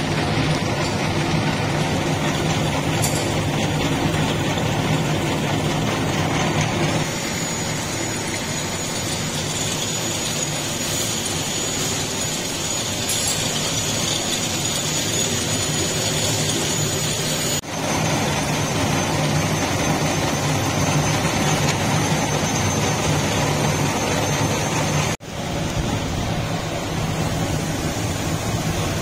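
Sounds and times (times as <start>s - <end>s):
metal lathe hum and whine: 0.0s - 29.0s.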